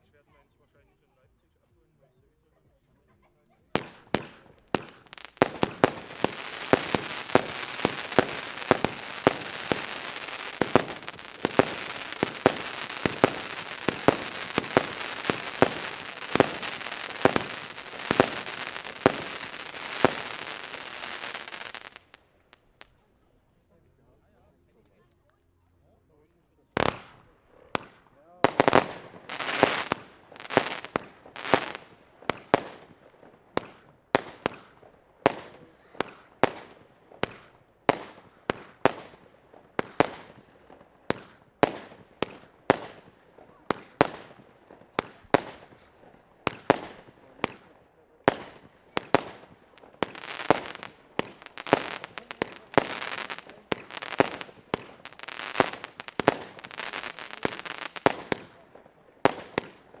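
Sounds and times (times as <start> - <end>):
fireworks bangs: 3.7 - 22.9, 26.8 - 60.0
rushing crackle of fireworks: 3.7 - 23.0, 26.7 - 60.0.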